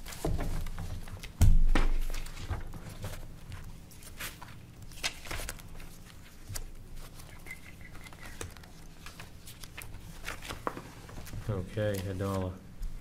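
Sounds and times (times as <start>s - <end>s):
low room hum: 0.0s - 13.0s
pages turning: 0.0s - 13.0s
papers rustling: 0.0s - 13.0s.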